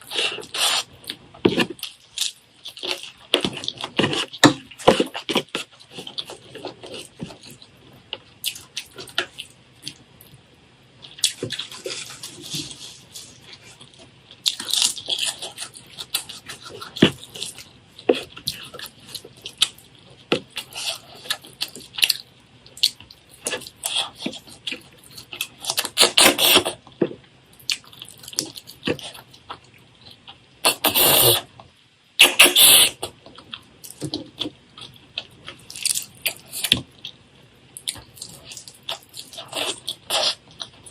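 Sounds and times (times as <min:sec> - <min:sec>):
wet chewing: 0:00.0 - 0:10.4, 0:11.0 - 0:31.4, 0:37.8 - 0:40.9.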